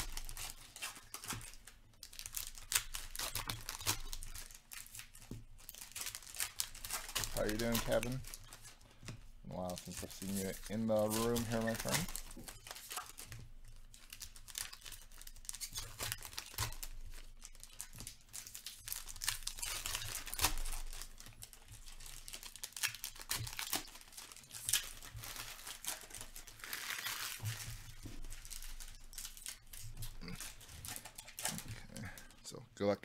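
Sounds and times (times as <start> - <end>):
foil wrappers tearing and crinkling: 0.0 - 32.4.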